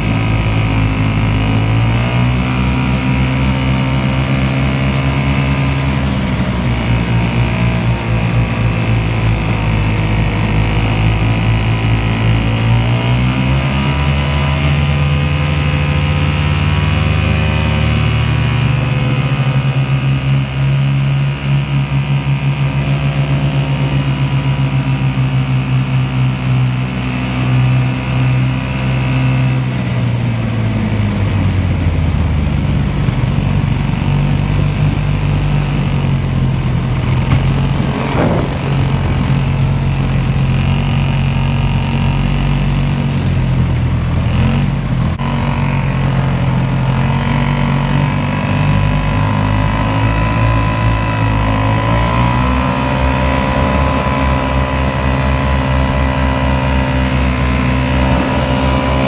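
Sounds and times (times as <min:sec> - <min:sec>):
snowmobile two-stroke engine running: 0:00.0 - 0:59.0.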